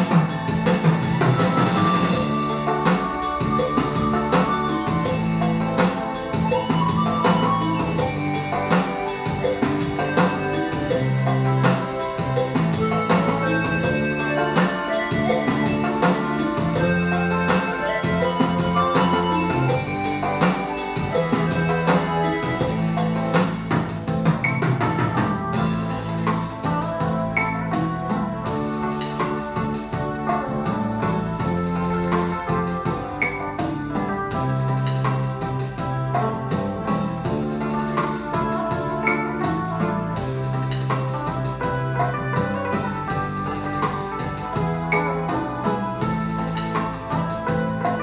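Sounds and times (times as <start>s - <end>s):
keyboard bolero with drums: 0.0s - 48.0s.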